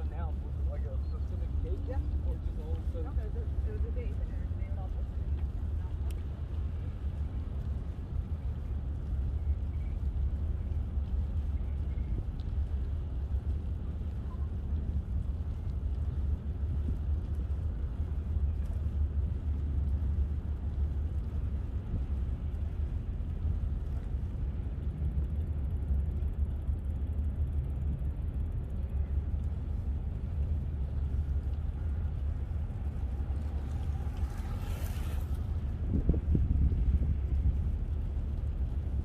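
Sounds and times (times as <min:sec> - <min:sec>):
bicycle tyres rolling: 0:00.0 - 0:39.0
wind buffeting microphone: 0:00.0 - 0:39.0.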